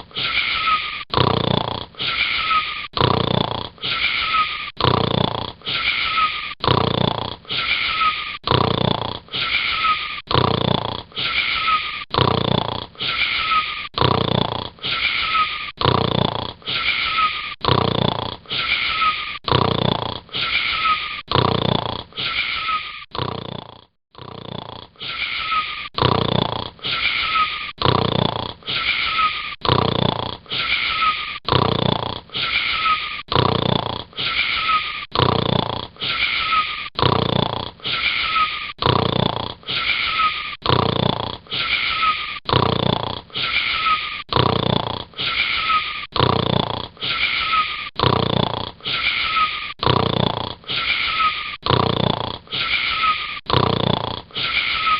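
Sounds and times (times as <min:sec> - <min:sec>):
snoring with whistling wheeze: 0:00.0 - 0:54.9.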